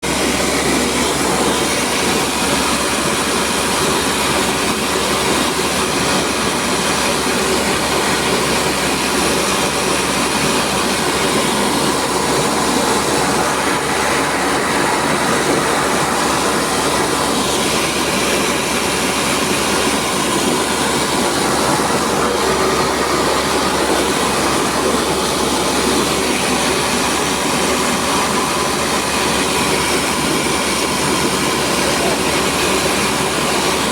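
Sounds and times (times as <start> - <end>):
rice milling machine running: 0.0 - 33.9.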